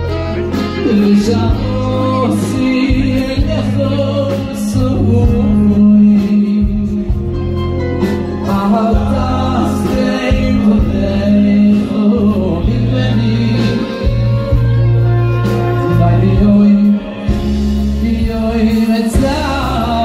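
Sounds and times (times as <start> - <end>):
live band playing: 0.0 - 20.0
sustained bass notes: 0.0 - 20.0
men singing into microphones: 0.8 - 7.2, 8.3 - 14.6, 15.8 - 20.0.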